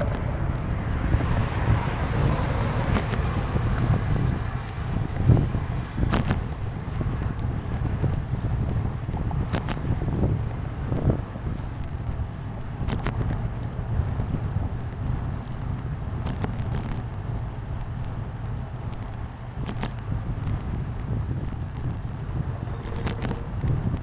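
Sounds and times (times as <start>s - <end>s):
sharp clicks and rattles: 0.0s - 8.4s, 11.6s - 24.0s
bicycle tyre and road noise: 0.0s - 24.0s
wind rumbling over microphone: 0.0s - 24.0s.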